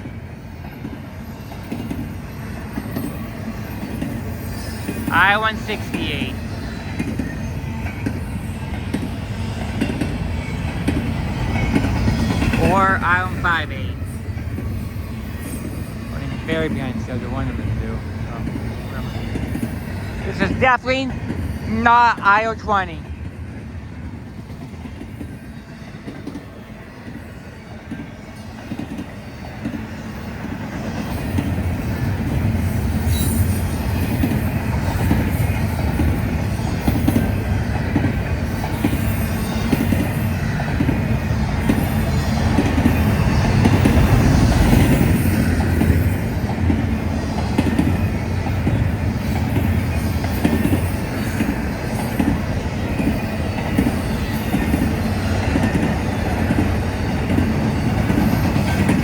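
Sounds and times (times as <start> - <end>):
wheels clacking over rail joints: 0.0 - 13.4, 24.4 - 59.0
freight train cars rolling past: 0.0 - 59.0.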